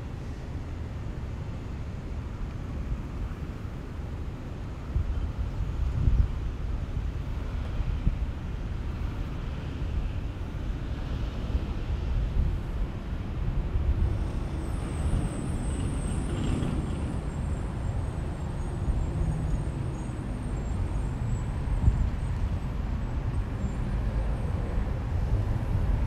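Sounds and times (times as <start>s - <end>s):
low traffic rumble: 0.0s - 26.0s.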